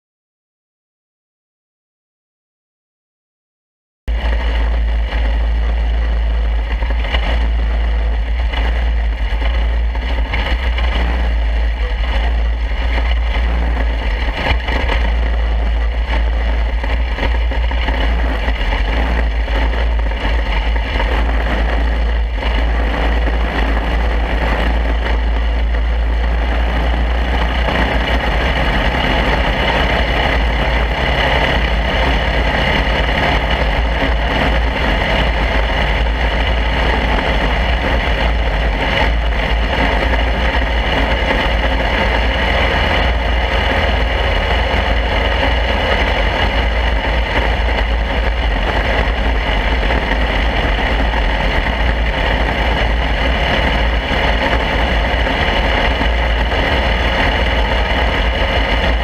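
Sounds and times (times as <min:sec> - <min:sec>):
small race car engine running: 0:04.1 - 0:59.0
wind rumble on microphone: 0:04.1 - 0:59.0.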